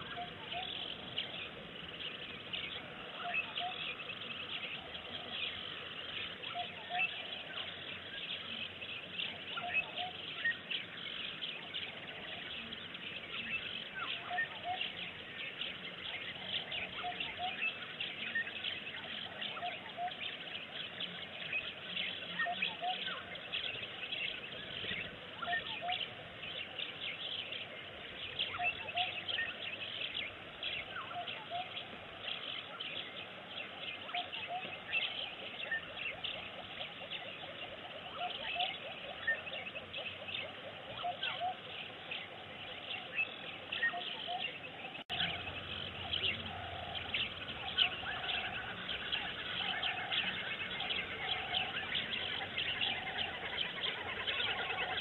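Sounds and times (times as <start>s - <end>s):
background hiss: 0.0s - 55.0s
small birds chirping: 0.0s - 55.0s.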